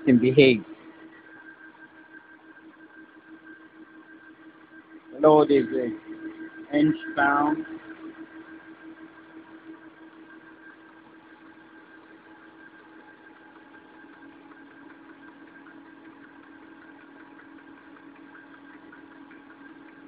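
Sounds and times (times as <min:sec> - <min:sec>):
electric motor and gears humming: 0:00.0 - 0:20.0.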